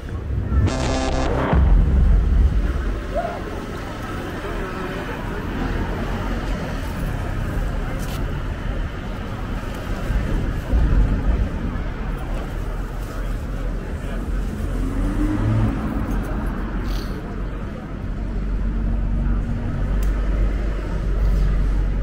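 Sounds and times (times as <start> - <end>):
crowd chatter: 0.0 - 22.0
road traffic rumble: 0.0 - 22.0.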